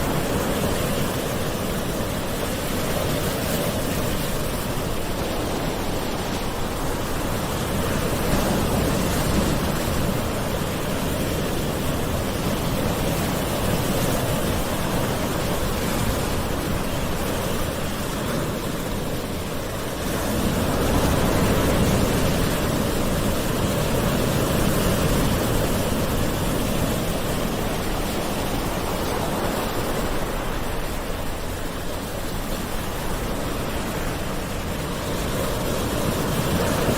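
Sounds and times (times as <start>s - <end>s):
ocean waves washing ashore: 0.0s - 36.9s.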